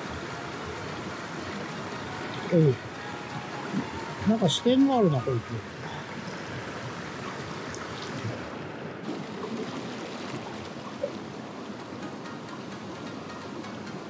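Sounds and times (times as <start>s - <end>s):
stream running over stones: 0.0s - 12.2s.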